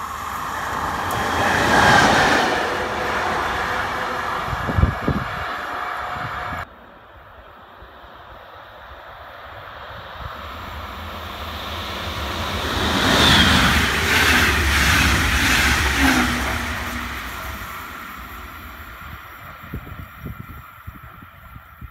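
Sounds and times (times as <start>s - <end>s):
train passing rushing rumble: 0.0s - 21.9s.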